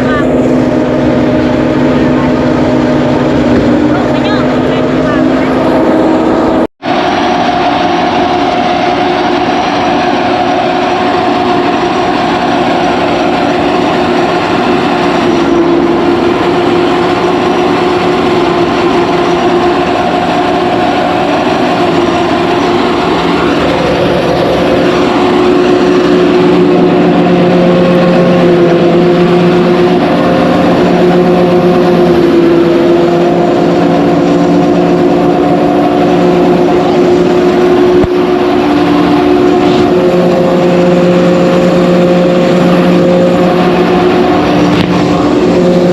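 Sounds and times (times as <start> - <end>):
threshing machine engine humming: 0.0 - 45.9.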